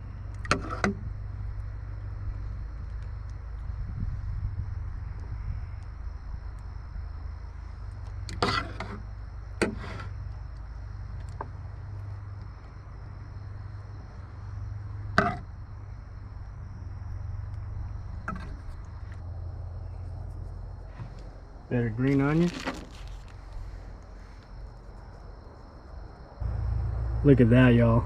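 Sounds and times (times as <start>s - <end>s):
insects trilling: 0.0s - 28.0s
low hum: 0.0s - 28.0s.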